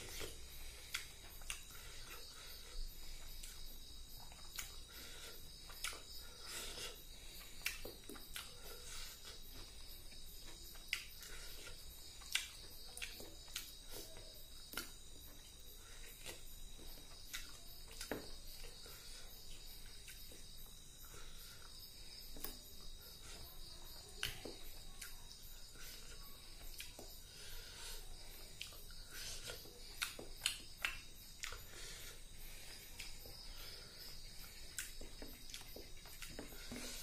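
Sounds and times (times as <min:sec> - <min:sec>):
crickets chirring: 0:00.0 - 0:37.0
wet chewing sounds: 0:00.0 - 0:37.0.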